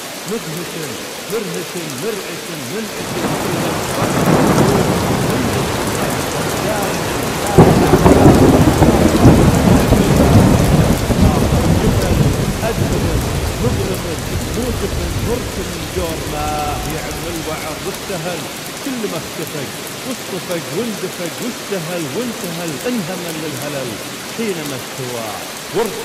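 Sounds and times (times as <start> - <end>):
steady rain: 0.0 - 26.0
thunder rumbling: 2.9 - 26.0.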